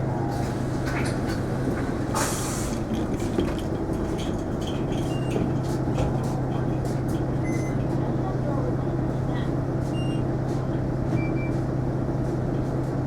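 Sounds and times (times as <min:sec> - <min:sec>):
bus engine hum: 0:00.0 - 0:13.0
road rumble: 0:00.0 - 0:13.0.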